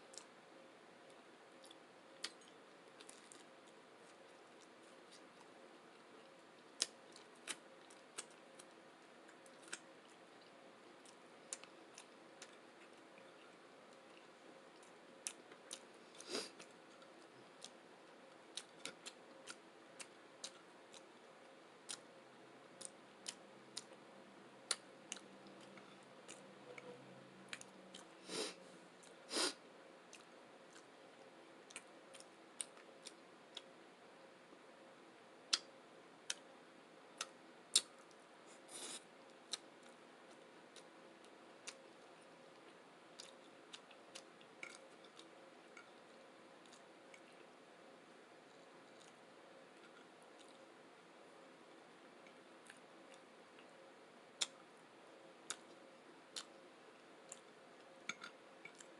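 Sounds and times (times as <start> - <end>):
quiet chewing: 1.0 - 22.2, 24.7 - 29.5, 30.1 - 33.7, 37.2 - 47.6, 48.4 - 50.8, 51.7 - 53.8, 54.4 - 54.6, 55.4 - 58.9.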